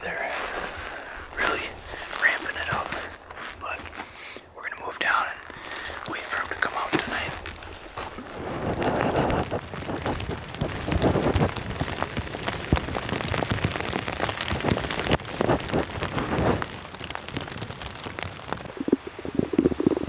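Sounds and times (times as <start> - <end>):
rain on a tarp: 0.0 - 20.0.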